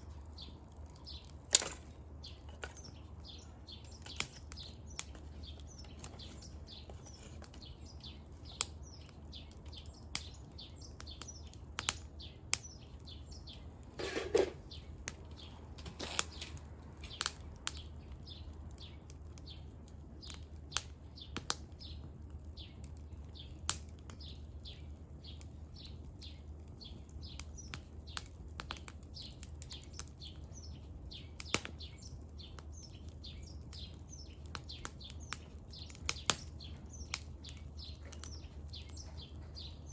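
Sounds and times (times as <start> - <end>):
birds chirping: 0.0 - 39.9
firewood crackling and popping: 0.0 - 39.9.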